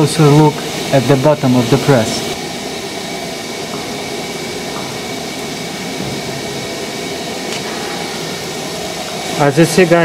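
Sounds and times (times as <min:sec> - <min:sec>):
machine drone with hiss: 0:00.0 - 0:10.0.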